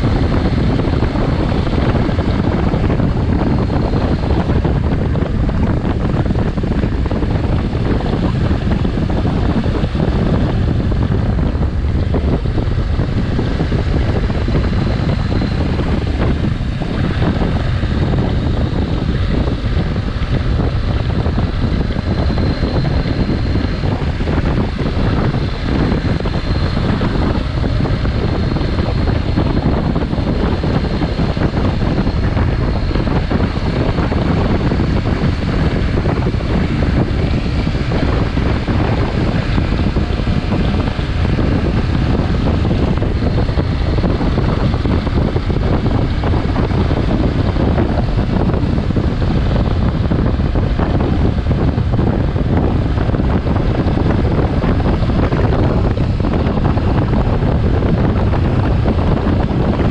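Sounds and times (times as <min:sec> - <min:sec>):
faint high whine: 0:00.0 - 0:59.9
motorcycle engine running: 0:00.0 - 0:59.9
wind rush on microphone: 0:00.0 - 0:59.9.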